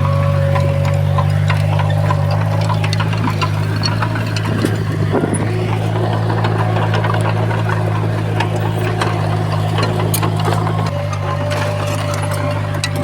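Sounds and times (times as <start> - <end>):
diesel engine running steadily: 0.0 - 13.0
metallic clicks and clanks: 0.0 - 13.0.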